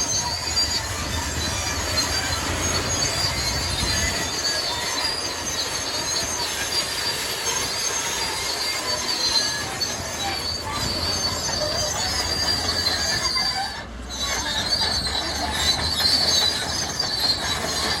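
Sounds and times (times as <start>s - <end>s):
bulldozer tracks squealing: 0.0s - 18.0s
diesel engine rumble: 0.0s - 18.0s.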